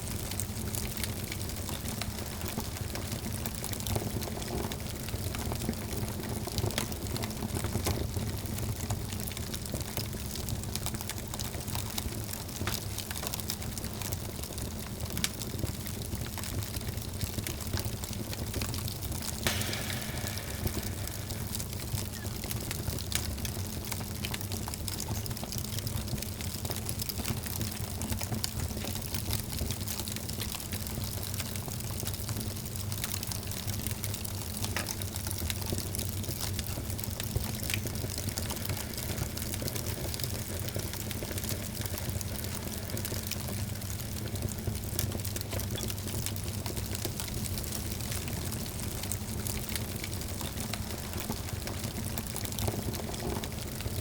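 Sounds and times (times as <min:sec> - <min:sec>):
fire crackles and pops: 0:00.0 - 0:54.0
low rumble of flames: 0:00.0 - 0:54.0.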